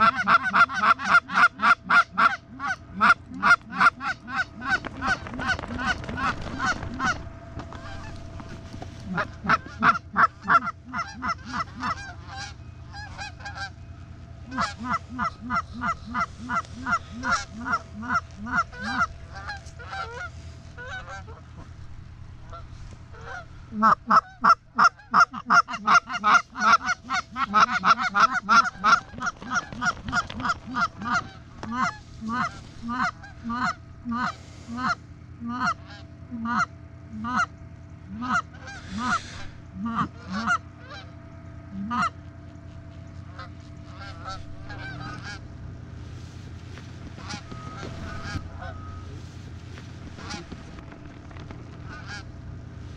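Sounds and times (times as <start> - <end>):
geese honking and clucking: 0.0 - 52.9.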